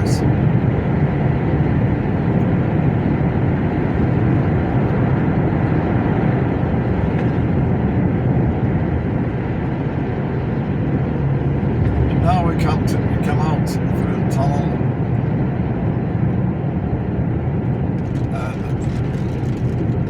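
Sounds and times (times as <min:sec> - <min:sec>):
truck engine and tyre rumble: 0:00.0 - 0:20.0.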